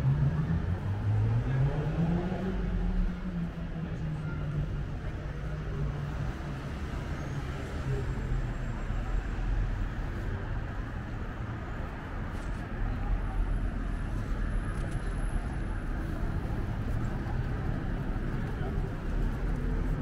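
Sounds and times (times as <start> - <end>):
passing traffic rumble: 0.0 - 20.0
vehicle engine hum: 0.0 - 20.0.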